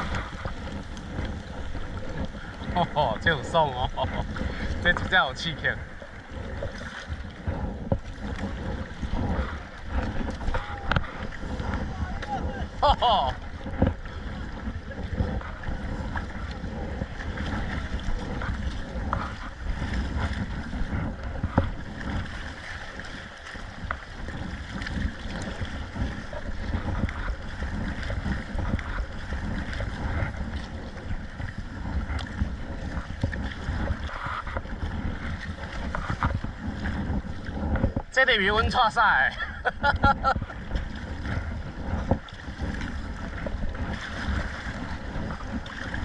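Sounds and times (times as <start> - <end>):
water sloshing around kayak: 0.0 - 46.0
wind buffeting microphone: 0.0 - 46.0.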